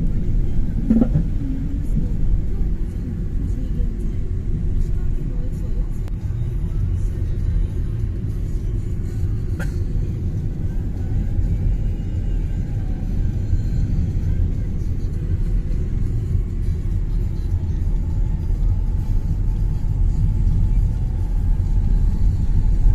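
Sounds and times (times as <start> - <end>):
car driving on snowy road: 0.0 - 22.9.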